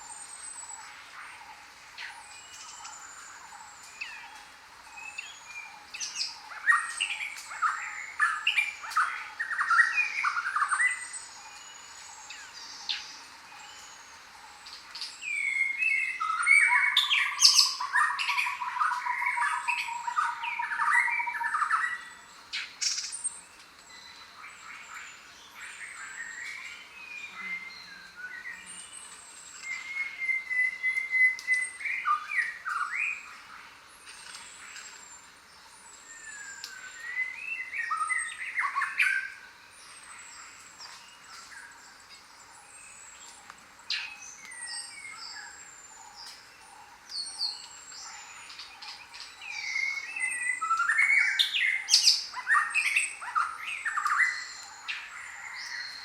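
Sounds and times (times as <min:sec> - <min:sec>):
jungle birds chirping and whistling: 0:00.0 - 0:56.0.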